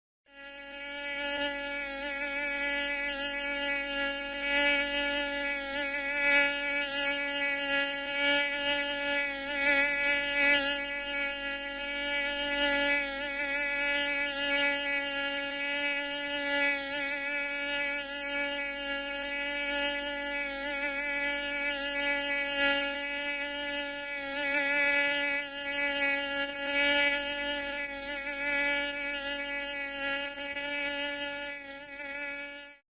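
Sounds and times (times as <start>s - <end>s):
mosquito buzzing whine: 0.3s - 32.8s.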